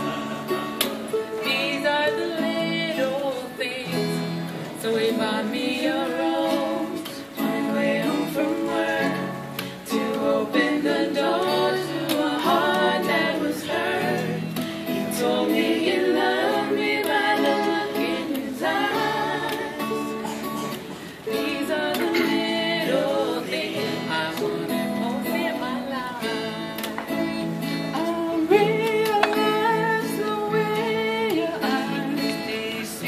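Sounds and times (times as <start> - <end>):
strummed acoustic guitars: 0.0 - 33.0
ukulele: 0.0 - 33.0
women singing together: 0.0 - 33.0.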